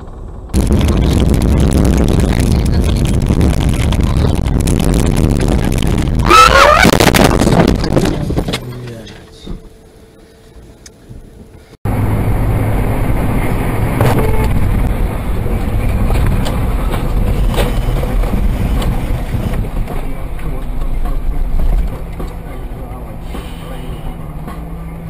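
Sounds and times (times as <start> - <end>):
car interior road rumble: 0.0 - 25.0.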